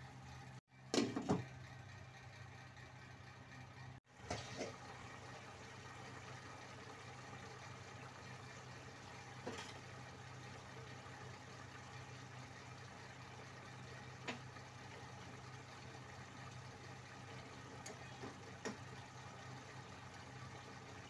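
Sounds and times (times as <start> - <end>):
food simmering bubbling hiss: 4.1 - 21.0.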